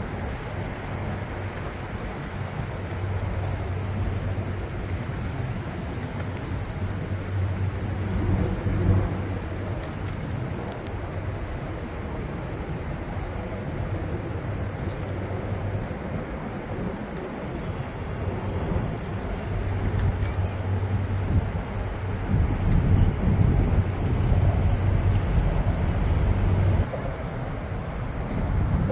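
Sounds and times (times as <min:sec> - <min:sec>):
road traffic hum: 0:00.0 - 0:28.9.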